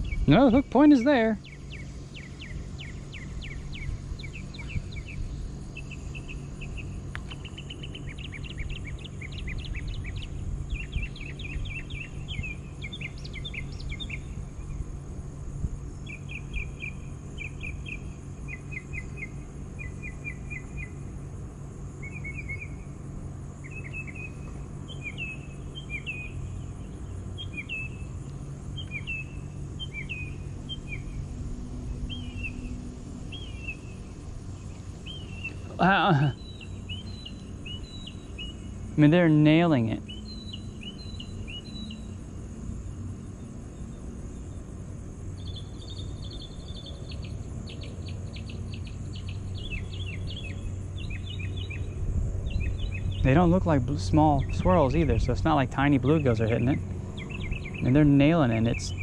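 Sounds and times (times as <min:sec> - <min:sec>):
small birds chirping: 0:00.0 - 0:59.0
steady low hum: 0:00.0 - 0:59.0.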